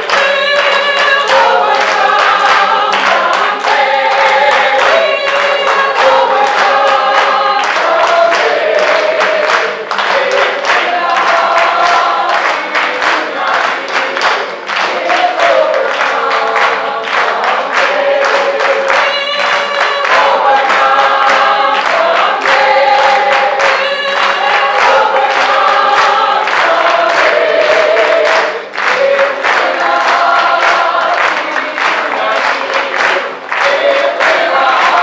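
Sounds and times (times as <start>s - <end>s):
group singing: 0.0s - 35.0s
hand claps: 0.0s - 35.0s.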